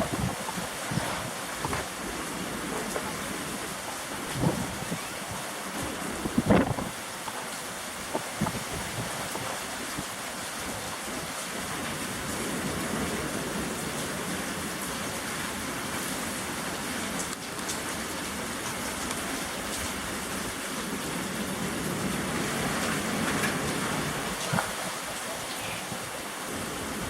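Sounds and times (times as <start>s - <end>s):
gusting wind: 0.0s - 27.0s
rain falling: 0.0s - 27.0s.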